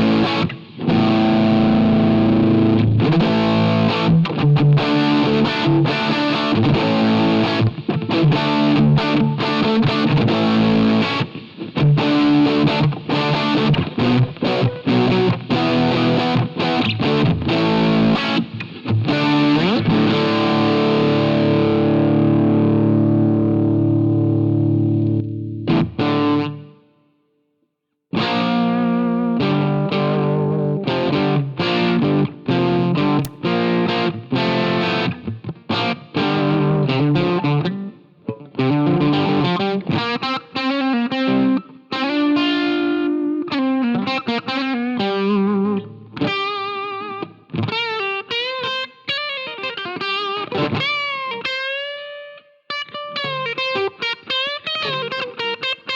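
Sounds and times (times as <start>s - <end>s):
overdriven electric guitar: 0.0s - 26.9s, 28.1s - 55.9s.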